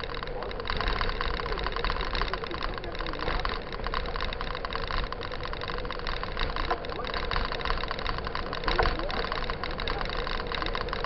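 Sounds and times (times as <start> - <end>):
bike rattle and rumble: 0.0 - 11.0.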